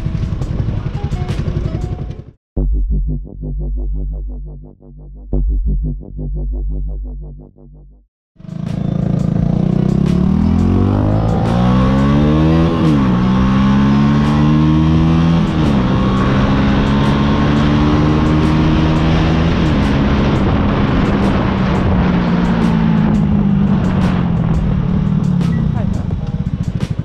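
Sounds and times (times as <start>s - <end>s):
motorcycle engine accelerating: 0.0s - 7.8s, 8.4s - 27.0s.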